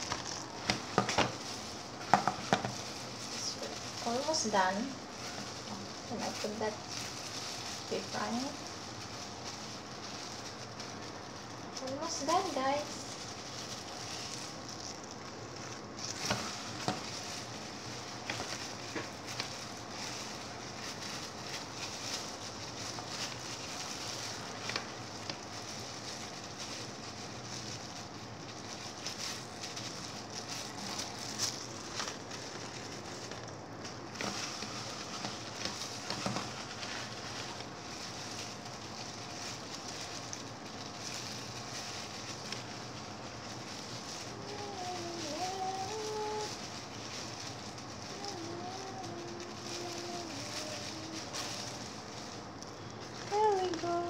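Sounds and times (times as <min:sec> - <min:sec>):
plastic gloves crinkling: 0:00.0 - 0:54.0.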